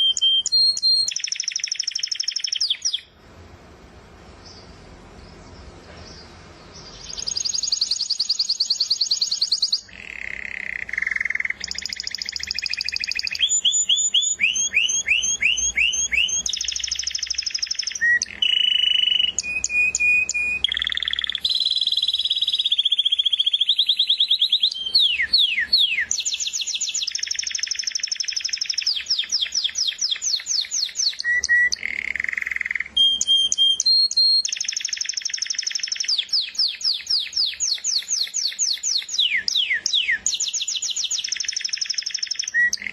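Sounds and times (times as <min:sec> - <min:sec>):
canary singing trills: 0:00.0 - 0:03.2, 0:04.4 - 0:42.9.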